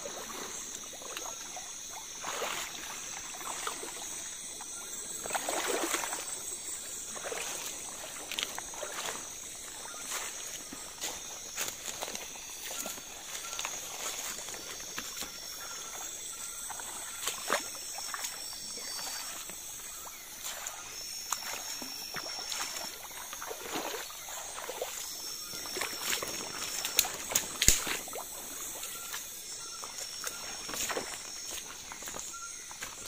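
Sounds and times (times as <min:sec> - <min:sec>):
night insects chorus: 0:00.0 - 0:33.0
water sloshing and splashing: 0:00.0 - 0:33.0.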